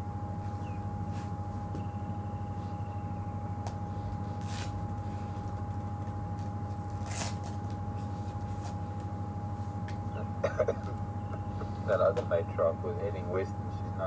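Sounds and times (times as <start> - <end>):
thin whine: 0.0 - 14.0.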